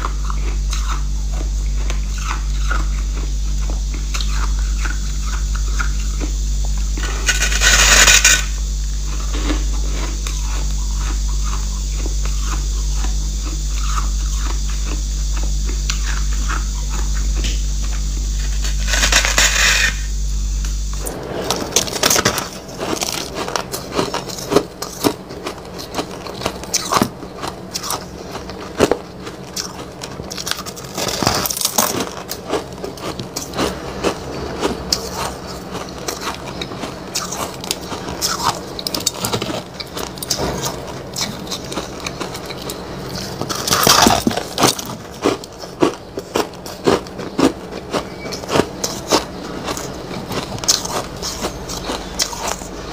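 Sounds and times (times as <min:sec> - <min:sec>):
teeth crunching ice: 0:00.0 - 0:20.0, 0:21.9 - 0:52.9.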